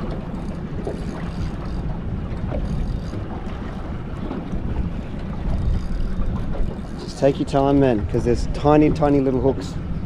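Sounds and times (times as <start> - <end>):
water moving around hull: 0.0 - 10.0
wind buffeting microphone: 0.0 - 10.0.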